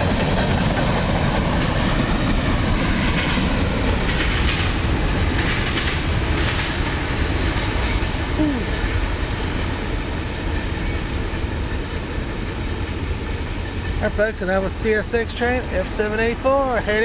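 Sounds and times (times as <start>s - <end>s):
freight train rumbling past: 0.0s - 17.0s
wheels clacking on rails: 0.0s - 17.0s.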